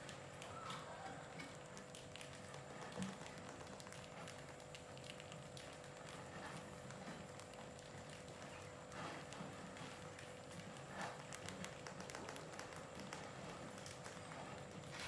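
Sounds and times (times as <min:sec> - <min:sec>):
rat claws scratching and pattering: 0:00.0 - 0:15.0.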